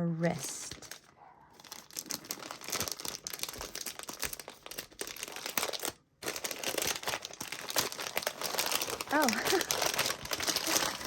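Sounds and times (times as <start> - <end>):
wrapping paper crinkling: 0.4 - 11.0.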